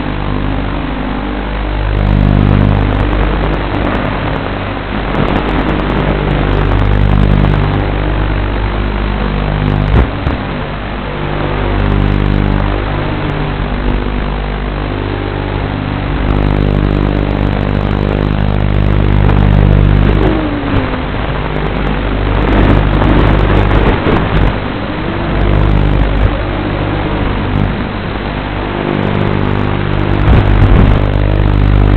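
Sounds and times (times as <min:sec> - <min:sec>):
quadcopter motors and propellers: 0:00.0 - 0:31.9
steady electrical hum: 0:00.0 - 0:31.9.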